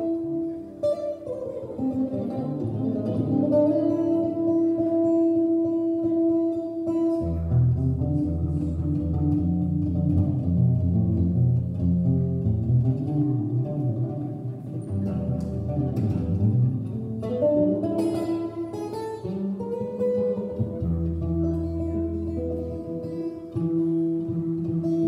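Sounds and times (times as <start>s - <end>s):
guitar chords: 0.0s - 25.0s.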